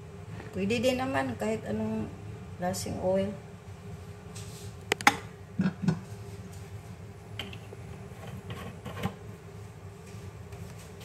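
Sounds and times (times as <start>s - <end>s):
low kitchen hum: 0.0s - 11.0s.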